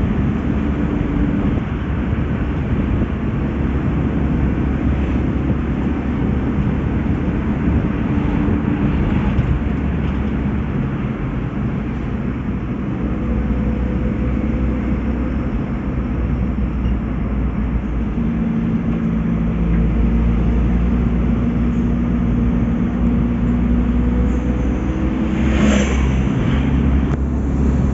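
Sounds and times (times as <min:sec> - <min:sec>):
engine hum: 0:00.0 - 0:27.9
vehicle engine and road rumble: 0:00.0 - 0:27.9.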